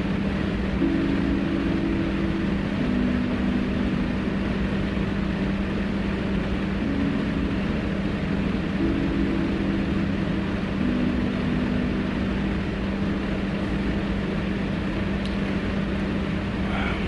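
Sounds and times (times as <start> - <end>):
faint held low tones: 0.0 - 15.1
steady hiss and low hum: 0.0 - 17.0.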